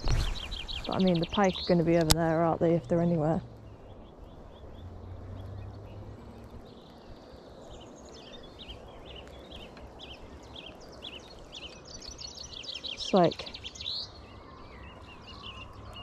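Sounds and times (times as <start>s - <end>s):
faint outdoor background noise: 0.0s - 16.0s
songbird chirping and trilling: 0.0s - 16.0s.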